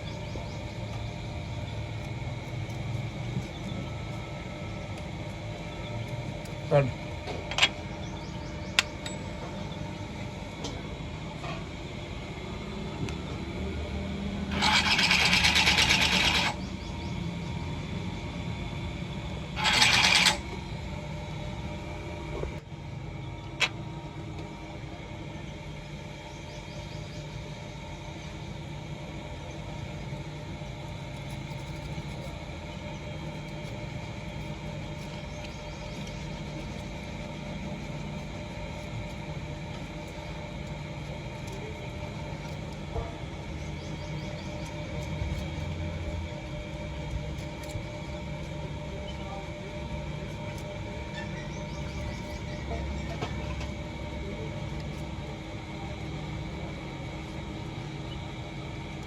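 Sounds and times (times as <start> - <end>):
low workshop hum: 0.0 - 59.0.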